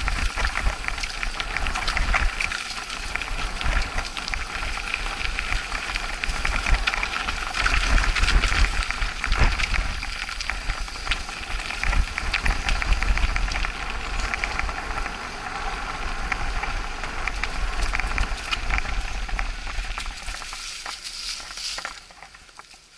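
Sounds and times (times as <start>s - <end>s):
wind rumble on microphone: 0.0s - 22.8s
bike rattling: 0.0s - 22.9s
tyres crunching over gravel: 0.0s - 22.9s.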